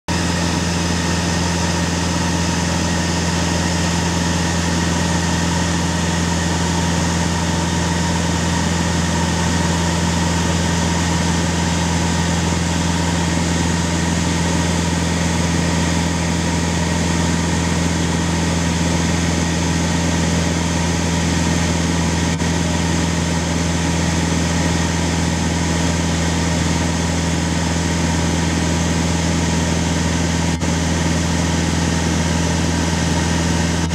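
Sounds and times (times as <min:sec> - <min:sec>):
aircraft engine drone: 0:00.1 - 0:33.9.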